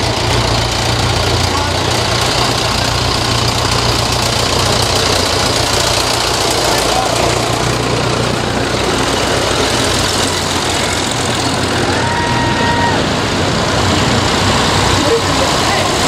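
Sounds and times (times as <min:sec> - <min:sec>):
tractor engines running: 0:00.0 - 0:16.0.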